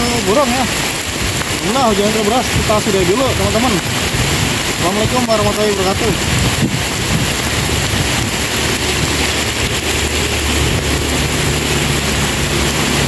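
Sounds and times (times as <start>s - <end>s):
heavy rain on water: 0.0s - 13.0s.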